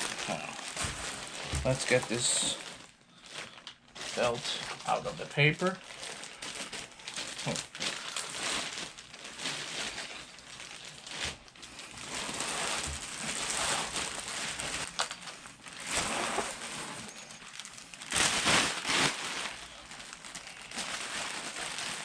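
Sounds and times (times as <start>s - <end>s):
packing paper rustling: 0.0s - 22.0s.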